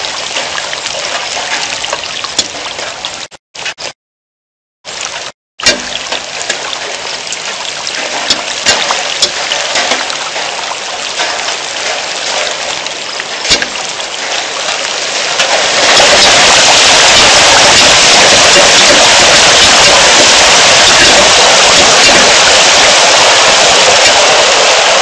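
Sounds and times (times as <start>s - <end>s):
heavy rain falling: 0.0s - 3.3s, 4.9s - 25.0s.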